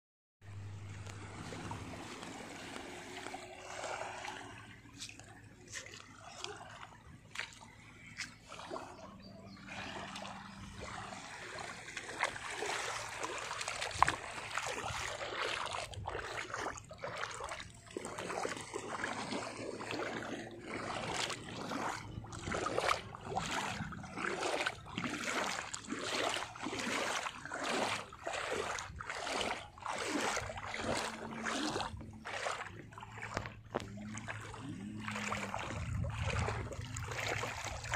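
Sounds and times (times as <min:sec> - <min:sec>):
short splashes: 0:00.5 - 0:37.9
water lapping over sand: 0:00.5 - 0:37.9.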